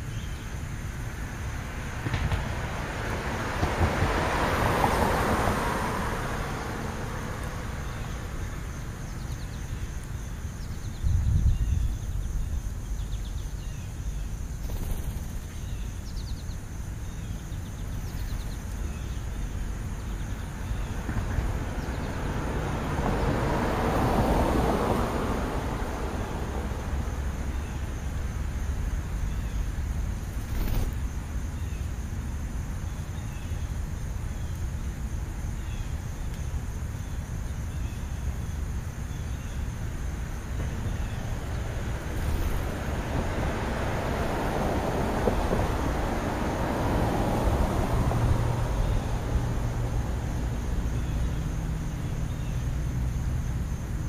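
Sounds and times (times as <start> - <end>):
car passing: 0.8 - 10.7, 12.8 - 54.0.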